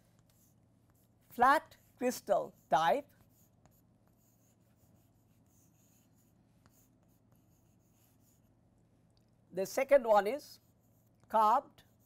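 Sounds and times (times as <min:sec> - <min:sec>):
chalk writing on blackboard: 0:00.0 - 0:08.6, 0:10.1 - 0:12.0.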